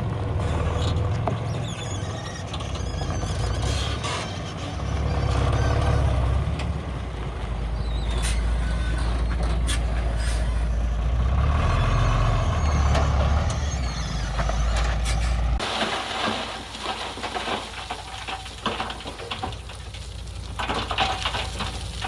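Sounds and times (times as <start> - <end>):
diesel machinery rumbling: 0.0 - 22.0.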